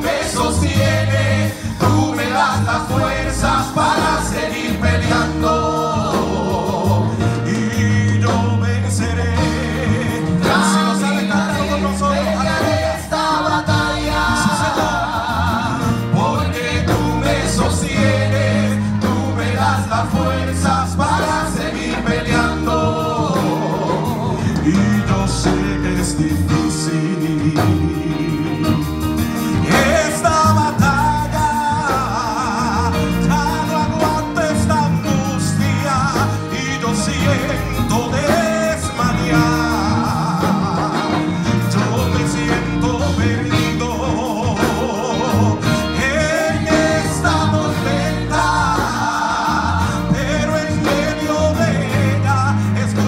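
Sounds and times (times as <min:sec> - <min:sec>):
group singing over loudspeakers: 0:00.0 - 0:27.8, 0:29.5 - 0:34.6, 0:35.4 - 0:53.0
bass: 0:00.0 - 0:53.0
electric guitar: 0:05.8 - 0:53.0.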